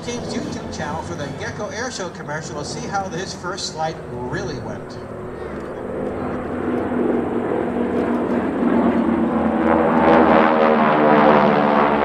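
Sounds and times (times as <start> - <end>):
propeller planes droning overhead: 0.0 - 12.0.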